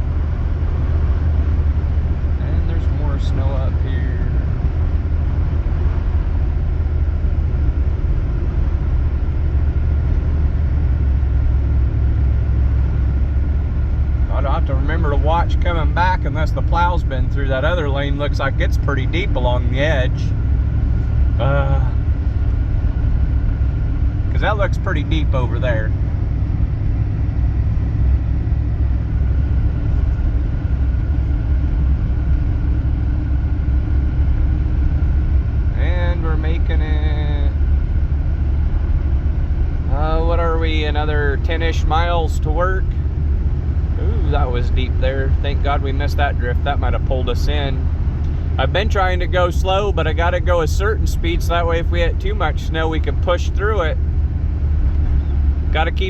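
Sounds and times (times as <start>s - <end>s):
vehicle engine and tyre rumble: 0.0s - 56.0s.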